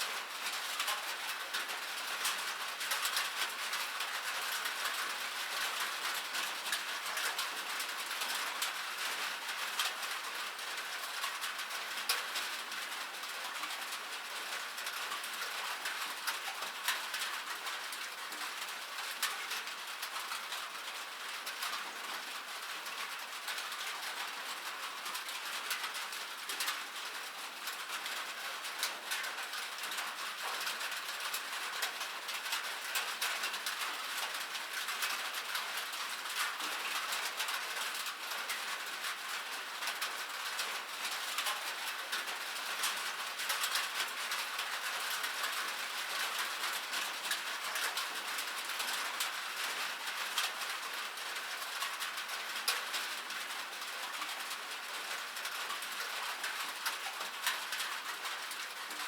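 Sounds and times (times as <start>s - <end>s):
rain on metal surface: 0.0s - 59.0s.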